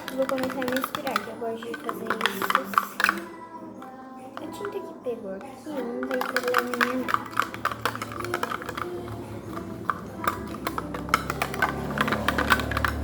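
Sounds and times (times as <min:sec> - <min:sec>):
stirring clicks in a container: 0:00.0 - 0:13.0.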